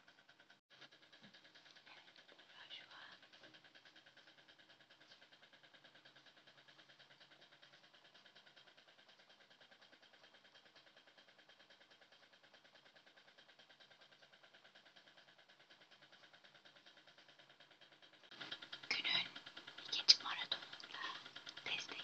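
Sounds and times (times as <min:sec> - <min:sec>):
room hum with fast flutter: 0:00.0 - 0:22.0.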